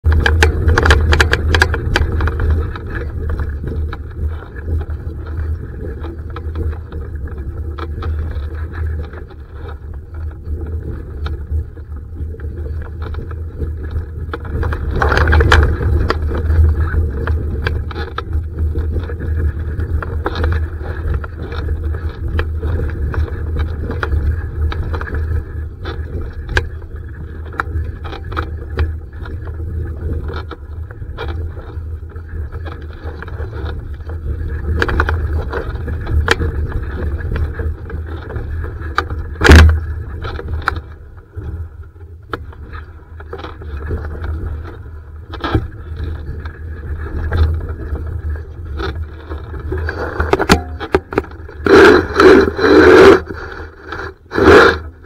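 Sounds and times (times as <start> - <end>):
wind rumbling on microphone: 0.0 - 55.0.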